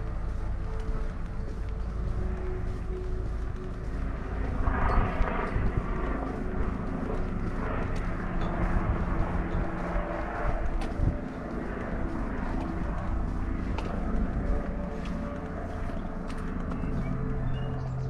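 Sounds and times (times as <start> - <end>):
distant engine drone: 0.0 - 18.0.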